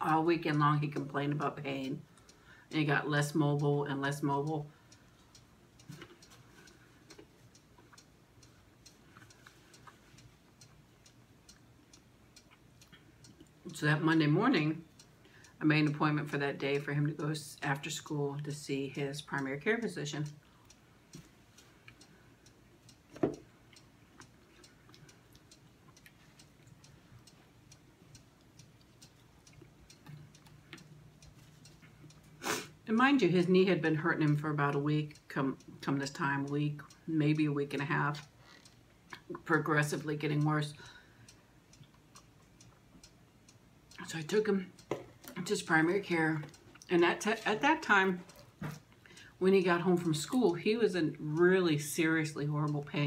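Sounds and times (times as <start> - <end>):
clock ticking: 0.0 - 53.0
low steady hum: 0.0 - 53.0.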